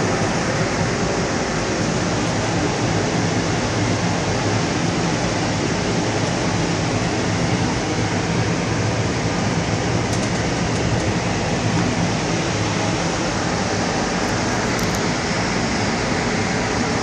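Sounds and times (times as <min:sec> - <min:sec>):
continuous low machine hum: 0:00.0 - 0:17.0.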